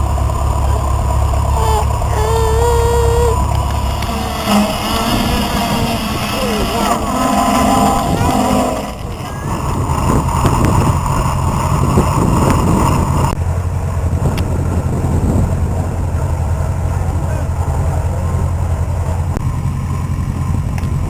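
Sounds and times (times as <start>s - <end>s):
engine humming steadily: 0.0s - 21.0s.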